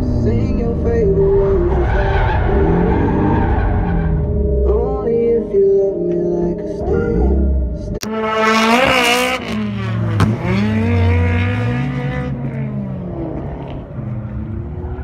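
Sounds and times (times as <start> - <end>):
car engine revving: 0.0 - 4.5, 7.2 - 15.0.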